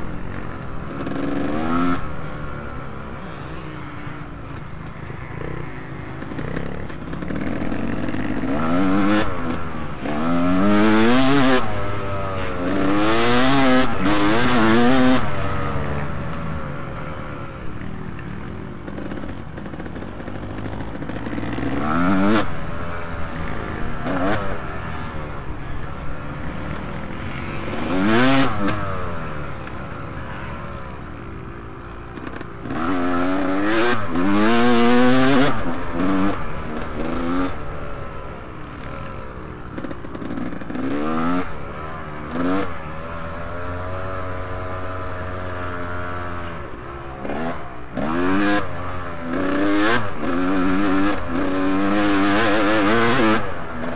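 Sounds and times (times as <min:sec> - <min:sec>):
motocross motorcycles revving: 0:00.0 - 0:53.9.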